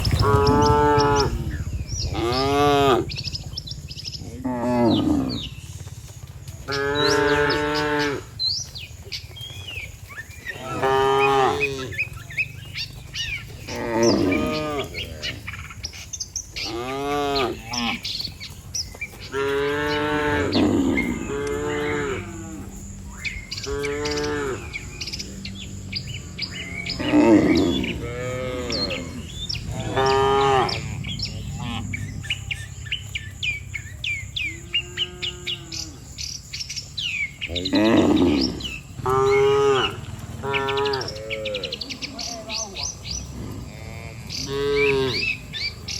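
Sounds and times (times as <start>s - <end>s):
cattle mooing: 0.0s - 5.7s, 6.6s - 8.4s, 10.5s - 15.6s, 16.6s - 18.3s, 19.2s - 33.1s, 34.4s - 36.3s, 37.4s - 45.9s
birds chirping: 0.0s - 45.9s.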